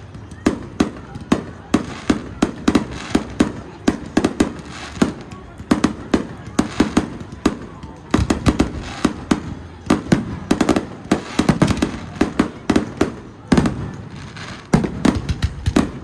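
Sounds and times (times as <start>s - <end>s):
fireworks bangs and pops: 0.0s - 16.0s.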